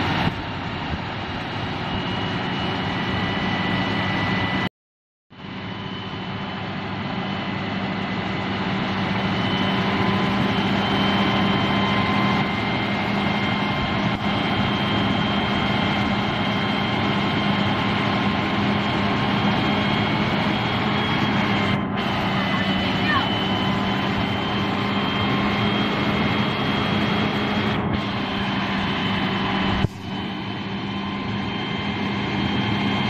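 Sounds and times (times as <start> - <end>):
engine and exhaust fan running: 0.0 - 4.6, 5.4 - 33.0
high whining tones: 5.4 - 33.0.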